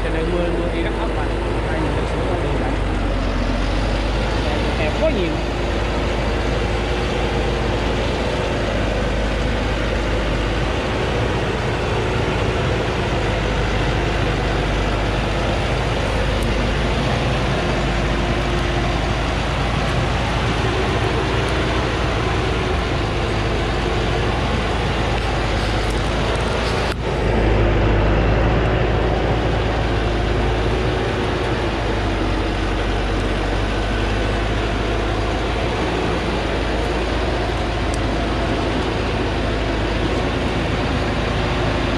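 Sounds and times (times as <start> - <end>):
diesel truck engine under load: 0.0 - 41.9.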